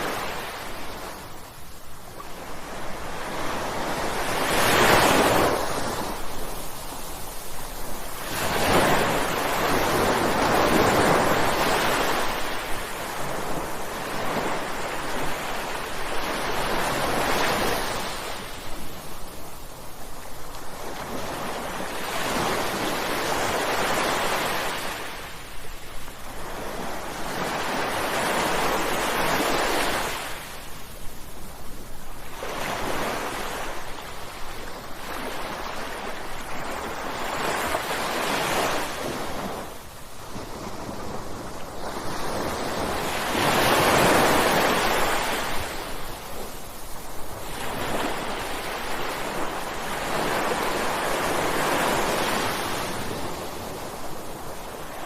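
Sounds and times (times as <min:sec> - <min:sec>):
ocean waves crashing on shore: 0:00.0 - 0:55.0.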